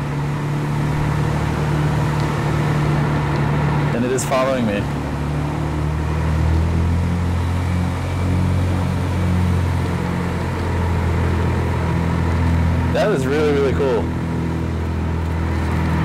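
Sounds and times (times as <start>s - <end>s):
car engine low drone: 0.0s - 16.0s.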